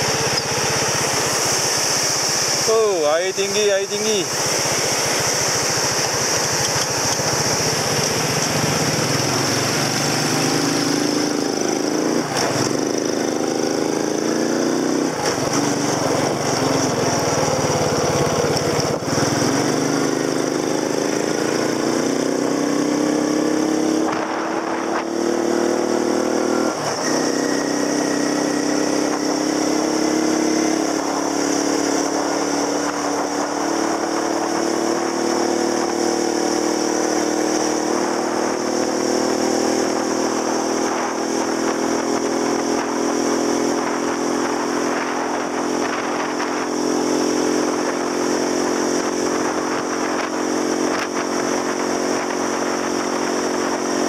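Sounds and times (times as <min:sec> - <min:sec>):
small motorcycle engine: 0:00.0 - 0:54.0
wind and road noise: 0:00.0 - 0:54.0.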